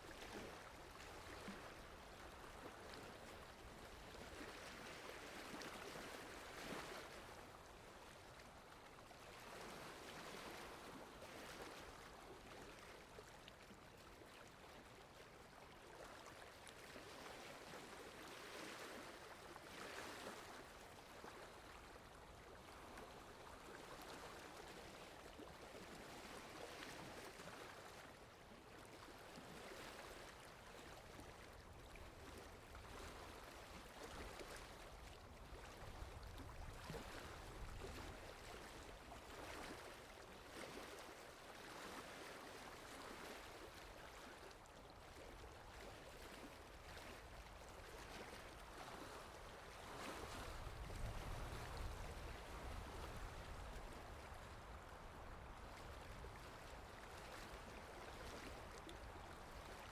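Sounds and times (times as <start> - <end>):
faint water lapping: 0.0 - 59.9
wind: 0.0 - 59.9.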